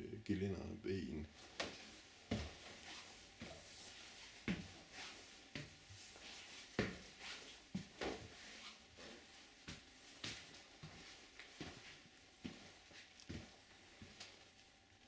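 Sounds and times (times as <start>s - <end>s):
footsteps on hard floor: 1.4s - 14.5s.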